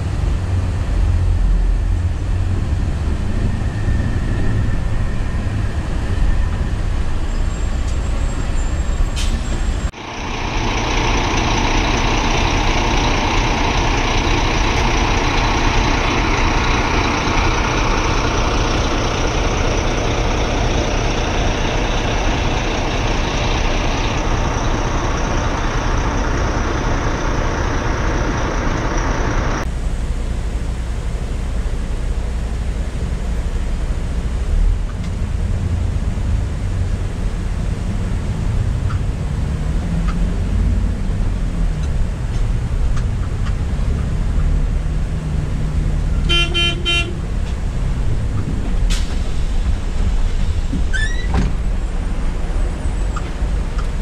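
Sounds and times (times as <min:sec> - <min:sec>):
diesel engine rumble: 0:00.0 - 0:54.0
road and wind noise: 0:00.0 - 0:54.0.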